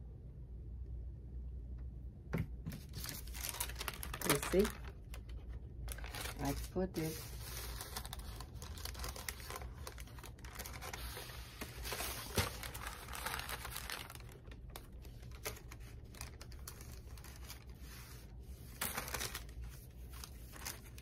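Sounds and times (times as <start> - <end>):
paper rustling and crinkling: 2.7 - 21.0.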